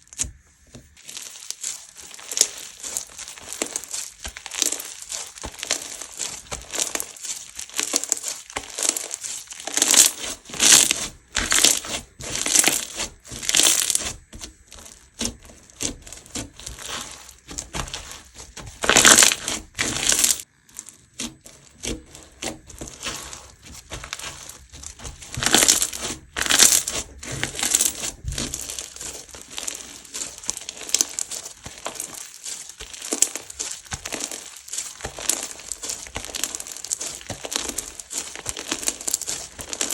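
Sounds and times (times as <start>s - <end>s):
crunchy slime crackling: 0.0s - 39.9s.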